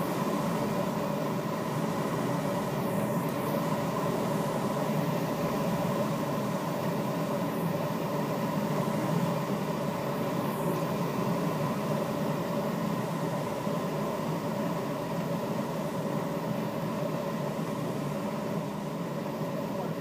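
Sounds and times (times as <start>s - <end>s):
airflow rushing around glider canopy: 0.0s - 20.0s.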